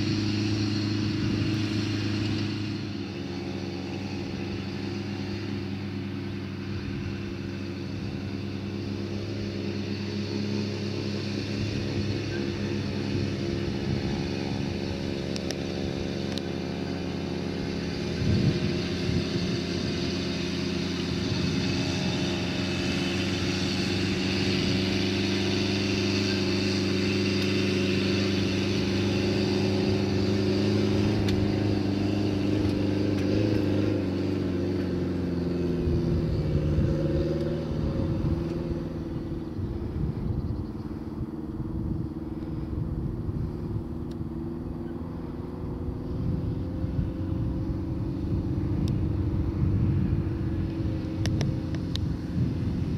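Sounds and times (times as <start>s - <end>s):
crop sprayer engine running: 0.0s - 52.9s.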